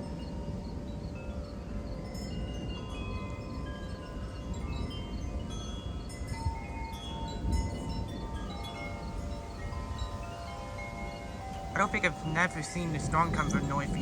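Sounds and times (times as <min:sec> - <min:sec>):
low rumble of wind: 0:00.0 - 0:14.0
wind chimes ringing: 0:00.0 - 0:14.0.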